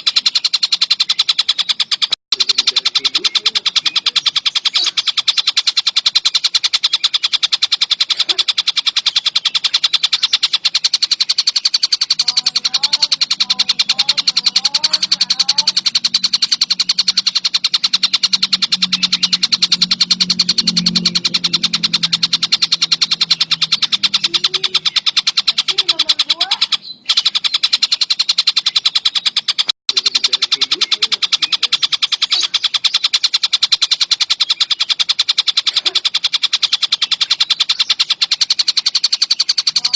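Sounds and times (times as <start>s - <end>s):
bird calling sharp repeated notes: 0.0s - 39.9s.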